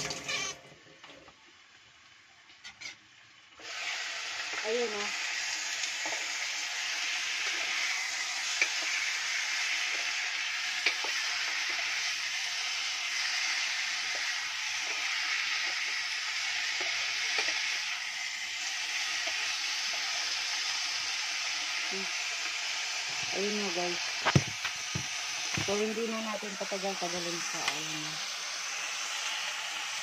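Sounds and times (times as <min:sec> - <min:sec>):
chicken sizzling in a pot: 0:00.0 - 0:30.0.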